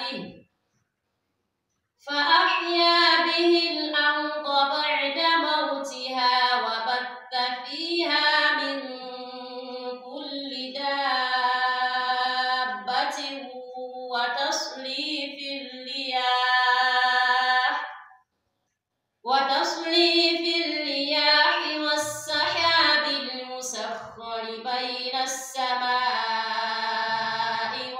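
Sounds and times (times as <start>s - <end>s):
woman chanting melodically: 0.0s - 0.4s, 2.0s - 18.1s, 19.3s - 27.9s.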